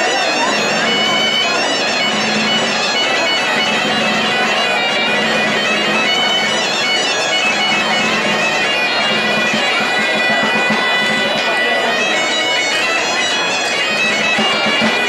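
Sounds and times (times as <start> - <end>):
bagpipe drone: 0.0 - 15.0
bagpipe playing a tune: 0.0 - 15.0.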